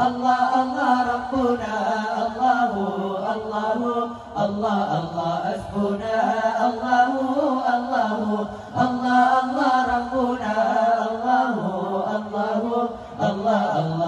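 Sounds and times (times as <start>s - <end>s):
group chanting in unison: 0.0s - 14.0s.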